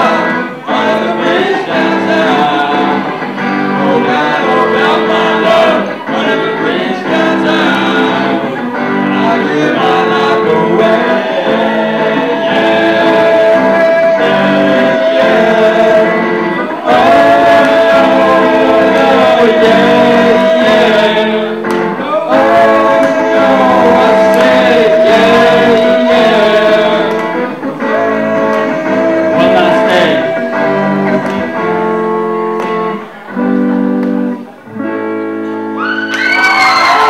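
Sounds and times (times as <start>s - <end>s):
men singing long held notes: 0.0s - 33.2s
electric guitar chords: 0.0s - 37.0s.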